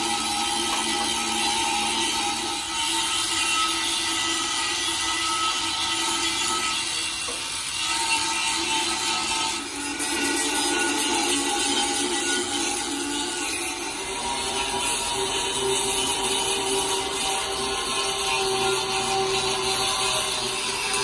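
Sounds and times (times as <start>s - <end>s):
angle grinder grinding steel: 0.0s - 21.0s.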